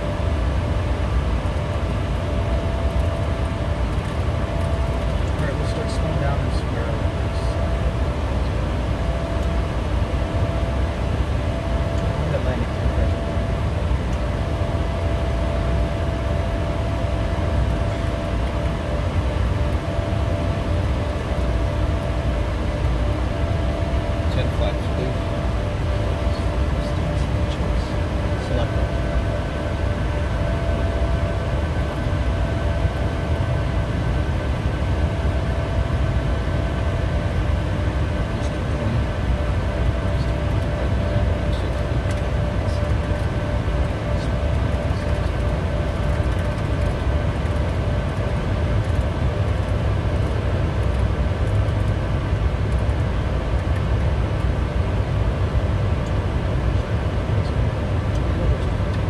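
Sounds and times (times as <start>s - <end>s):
jet cockpit rumble: 0.0s - 59.0s.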